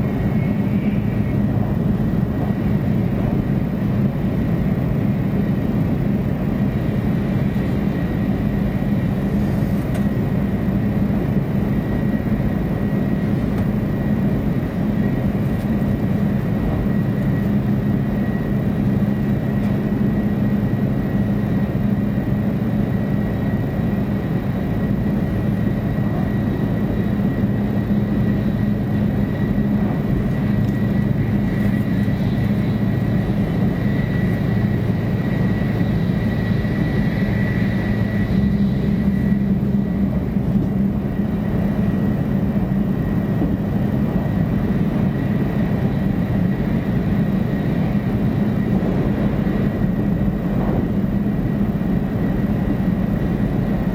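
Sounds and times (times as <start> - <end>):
high whine: 0.0 - 22.3, 23.0 - 53.9
train low rumble: 0.0 - 53.9.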